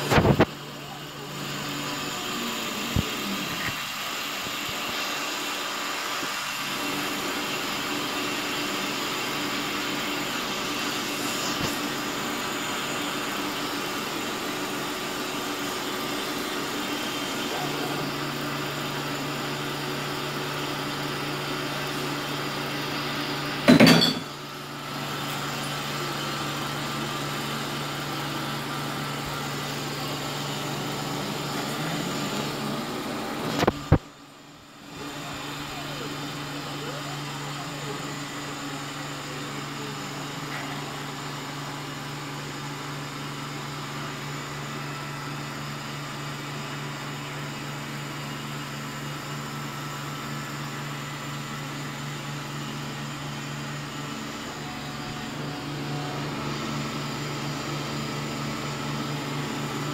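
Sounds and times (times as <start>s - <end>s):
cnc router cutting wood: 0.0s - 23.7s, 24.3s - 59.9s.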